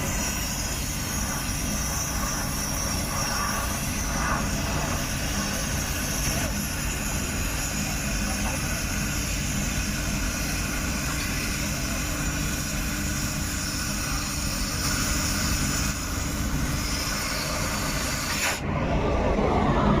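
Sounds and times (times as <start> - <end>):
cutting torch hissing: 0.0 - 18.7
low workshop rumble: 0.0 - 20.0.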